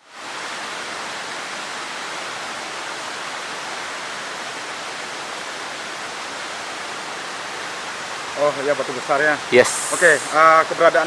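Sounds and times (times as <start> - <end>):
water rushing over a dam: 0.1 - 11.0.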